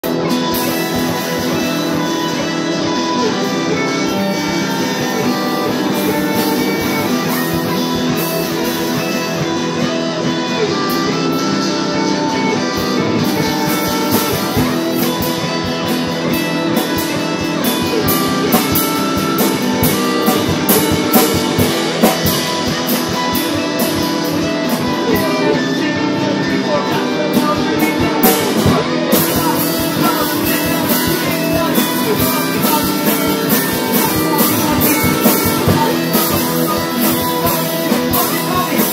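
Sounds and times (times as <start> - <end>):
drum kit: 0.0 - 38.9
electric guitars: 0.0 - 38.9
rock band playing: 0.0 - 38.9.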